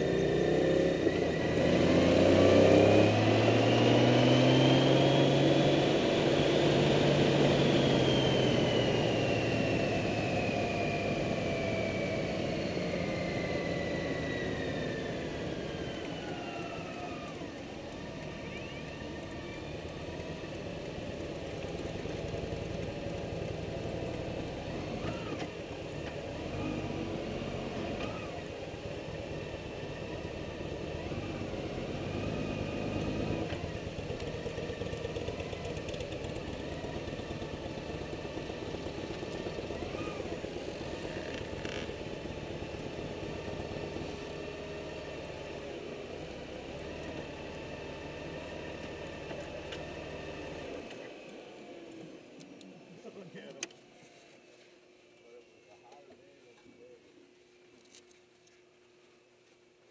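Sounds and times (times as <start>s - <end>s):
motorcycle engine running: 0.0s - 51.1s
road and wind noise: 0.0s - 53.8s.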